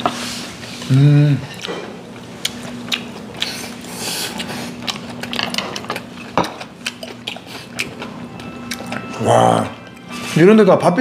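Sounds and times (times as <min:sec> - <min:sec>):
chewing: 0:00.7 - 0:10.1.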